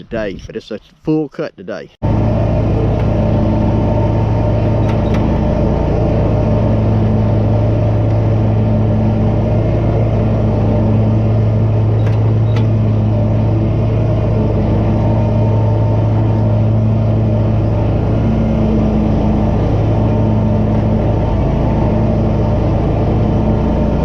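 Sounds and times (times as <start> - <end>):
lawn mower engine humming: 2.0 - 24.0.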